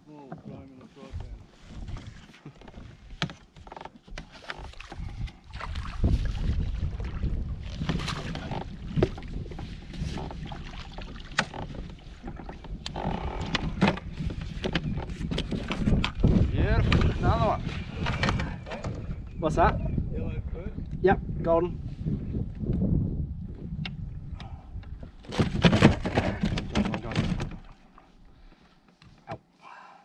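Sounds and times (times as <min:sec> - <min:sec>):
water splashing around hull: 0:00.2 - 0:19.2, 0:24.0 - 0:29.0.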